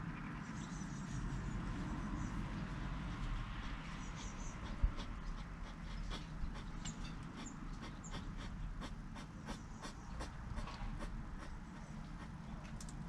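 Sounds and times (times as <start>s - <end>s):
animal sniffing and snuffling: 2.3s - 12.8s.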